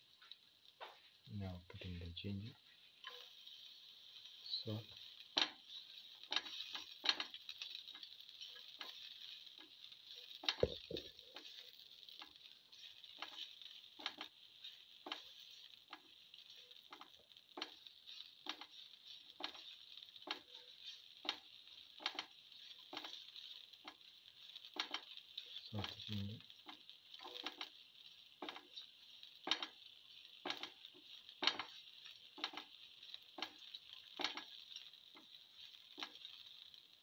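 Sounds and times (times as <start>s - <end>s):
food sizzling in oil: 0.0s - 37.0s
spatula scraping a pan: 1.8s - 37.0s.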